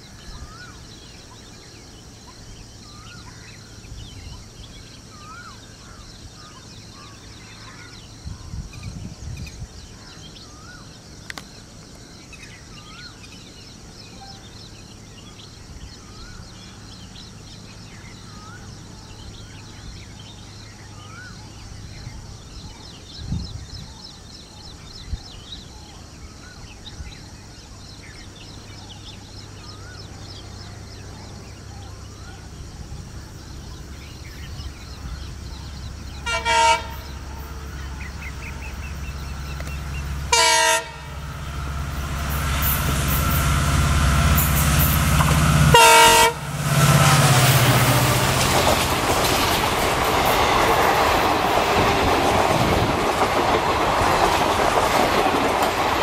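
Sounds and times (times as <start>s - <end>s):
birds chirping: 0.0s - 55.0s
faint diesel locomotive drone: 0.0s - 56.0s.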